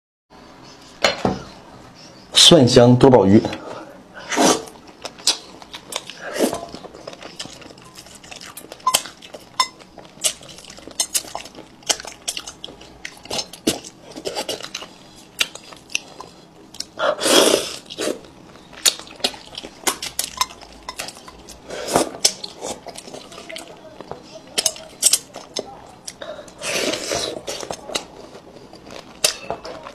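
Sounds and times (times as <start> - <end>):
chewing: 4.7 - 29.9.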